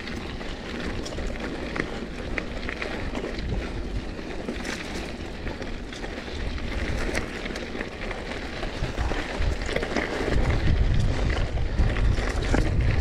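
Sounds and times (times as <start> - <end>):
bike ticking and rattling: 0.0 - 13.0
bike tyres rolling over gravel: 0.0 - 13.0
wind rumble on microphone: 0.0 - 13.0.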